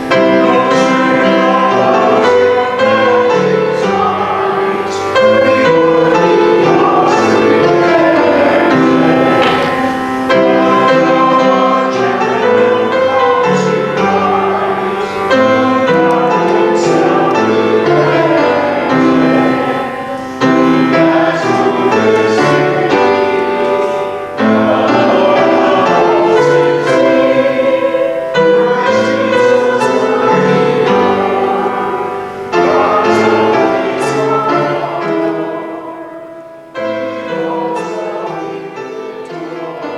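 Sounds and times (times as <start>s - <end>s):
choir singing a hymn: 0.0s - 39.9s
piano accompaniment: 0.0s - 39.9s.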